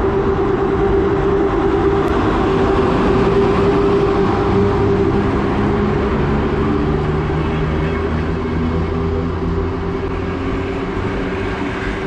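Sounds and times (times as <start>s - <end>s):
constant electric whine: 0.0s - 12.0s
electric train running past: 0.0s - 12.0s.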